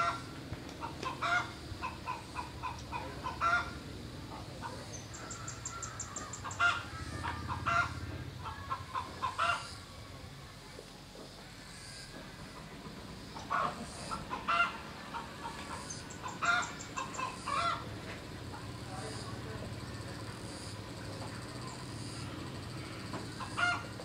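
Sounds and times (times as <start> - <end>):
fowl calling: 0.0 - 10.0, 13.3 - 24.0.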